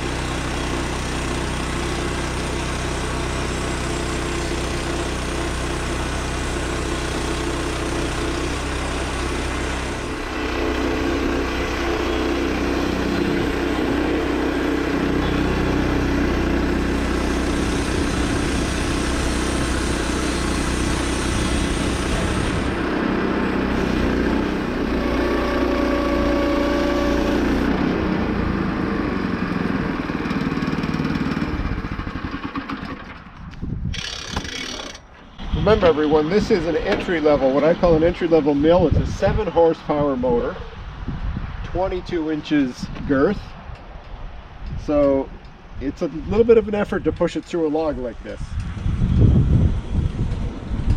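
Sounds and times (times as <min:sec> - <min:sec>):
sawmill engine running under load: 0:00.0 - 0:40.8.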